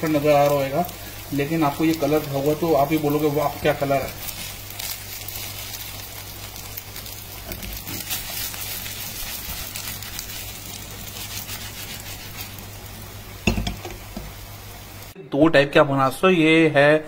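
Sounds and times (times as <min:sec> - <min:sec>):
oil sizzling in a frying pan: 0:00.0 - 0:15.2.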